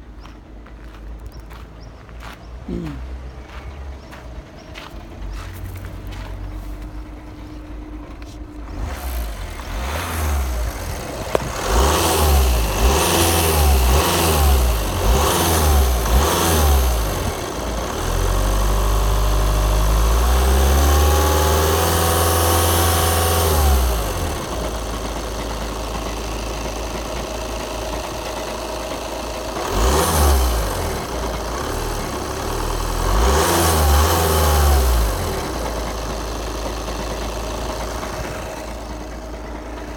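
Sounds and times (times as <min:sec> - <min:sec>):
diesel car engine revving: 0:00.0 - 0:39.9.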